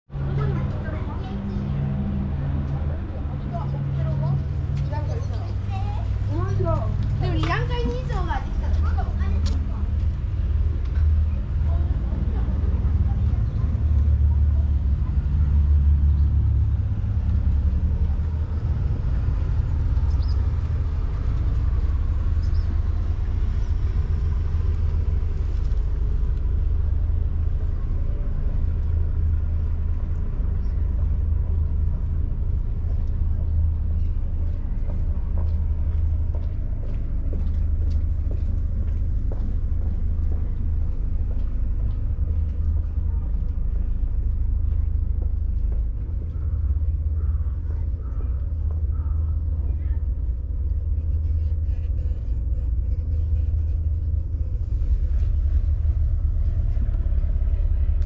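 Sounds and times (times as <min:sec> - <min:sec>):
steady low rumble: 0:00.1 - 0:58.0.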